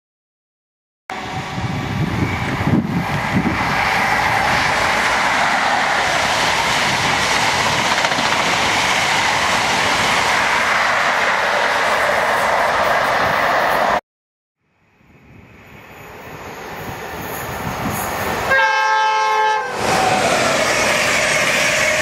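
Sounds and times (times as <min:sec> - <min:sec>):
roar of wheels on rail: 0:01.1 - 0:14.0, 0:15.0 - 0:22.0.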